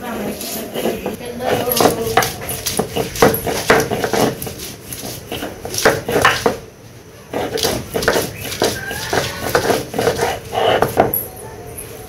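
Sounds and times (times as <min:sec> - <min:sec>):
knife chopping on a board: 0:00.7 - 0:06.7, 0:07.3 - 0:11.2.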